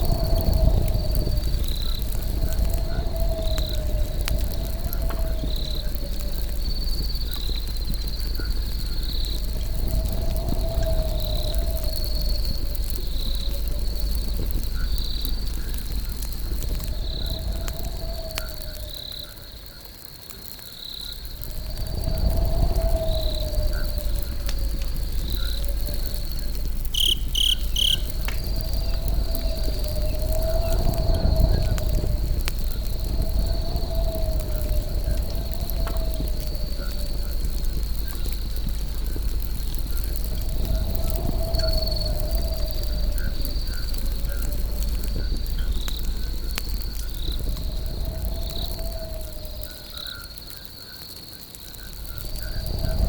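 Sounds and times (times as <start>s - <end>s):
campfire crackling and popping: 0.0s - 53.0s
crickets trilling: 0.0s - 53.0s.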